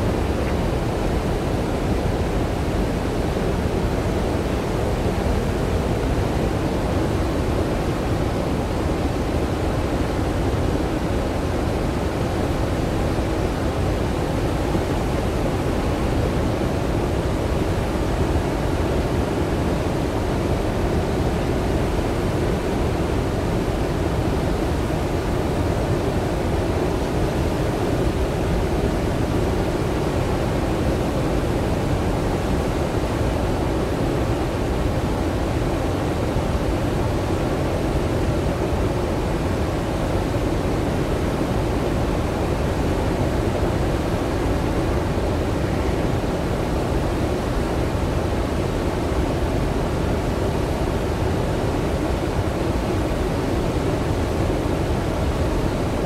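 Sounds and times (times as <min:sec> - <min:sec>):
floodwater roaring from spillway: 0:00.0 - 0:56.0.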